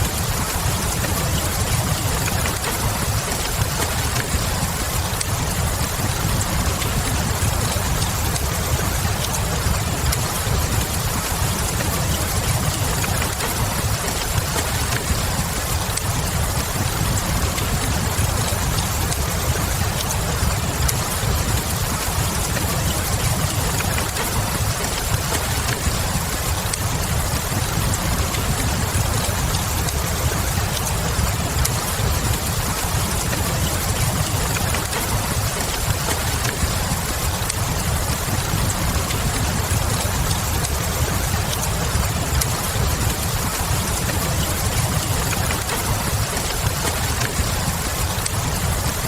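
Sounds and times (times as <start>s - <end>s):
steady rain: 0.0s - 49.0s
wood fire crackling: 0.0s - 49.0s.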